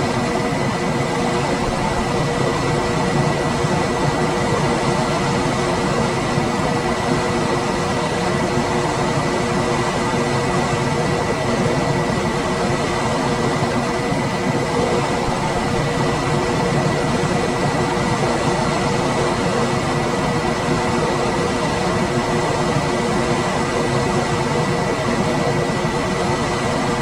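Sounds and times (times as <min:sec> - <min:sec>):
air conditioner fan rushing: 0:00.0 - 0:27.0
steady hum: 0:00.0 - 0:27.0.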